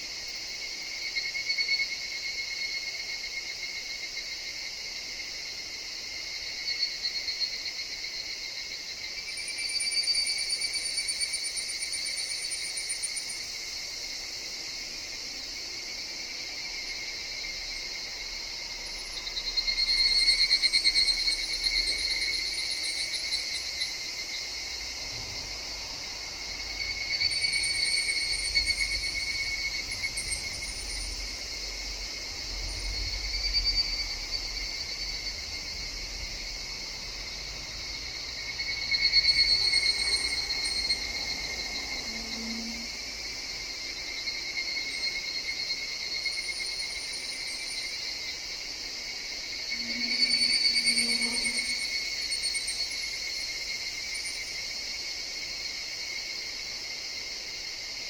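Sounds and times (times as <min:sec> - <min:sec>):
cicadas trilling: 0:00.0 - 0:58.0
steady insect drone: 0:00.0 - 0:58.0.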